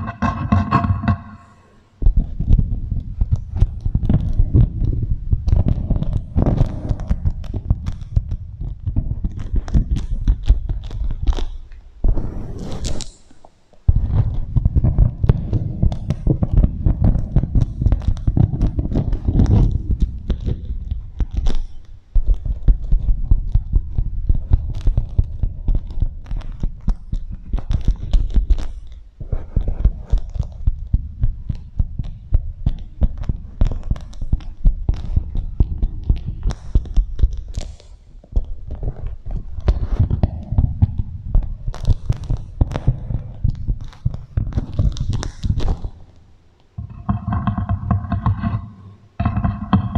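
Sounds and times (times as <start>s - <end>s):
wax wrap crinkling against microphone: 2.1s - 49.6s.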